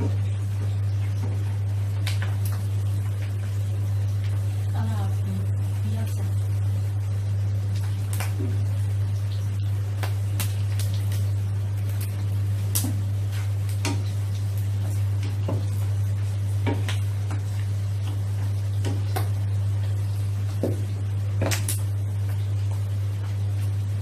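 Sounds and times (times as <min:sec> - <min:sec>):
meat deep-frying in bubbling oil: 0:00.0 - 0:24.0
steady low hum: 0:00.0 - 0:24.0.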